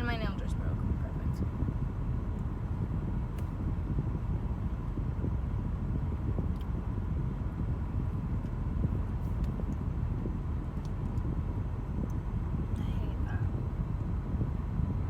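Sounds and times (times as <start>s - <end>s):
car cabin rumble: 0.0s - 15.0s
faint steady whine: 0.0s - 15.0s.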